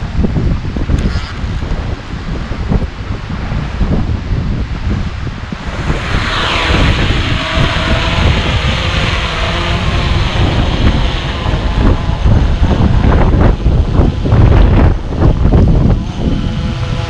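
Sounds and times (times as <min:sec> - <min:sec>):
drone propellers whirring: 0:00.0 - 0:17.0
wind buffeting microphone: 0:00.0 - 0:17.0.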